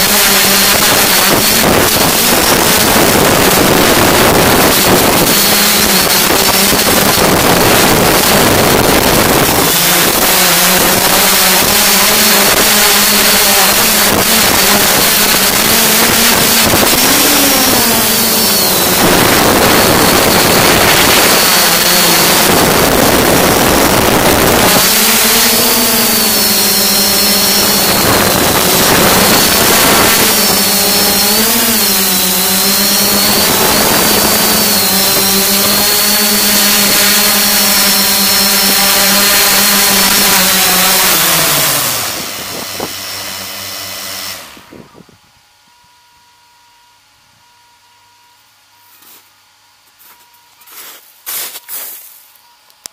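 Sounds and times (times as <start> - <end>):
drone motors humming and whining: 0.0 - 50.9
wind gusts on microphone: 0.1 - 37.4, 39.4 - 45.3.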